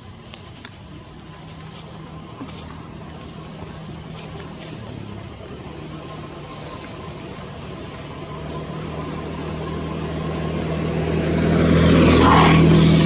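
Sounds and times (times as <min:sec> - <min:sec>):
passing engine hum: 0:00.0 - 0:13.0.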